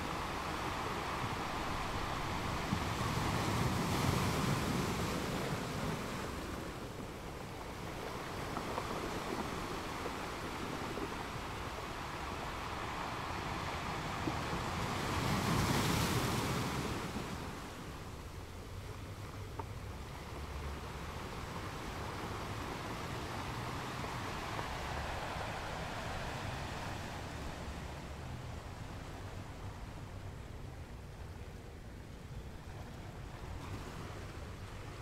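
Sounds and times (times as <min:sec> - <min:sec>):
ocean waves breaking on shore: 0:00.0 - 0:35.0.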